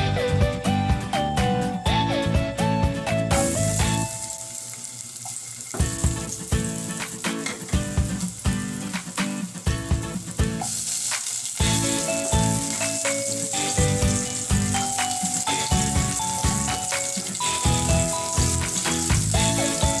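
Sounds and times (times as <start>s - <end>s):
background music with steady beat: 0.0s - 20.0s
food sizzling in saucepan: 3.3s - 20.0s.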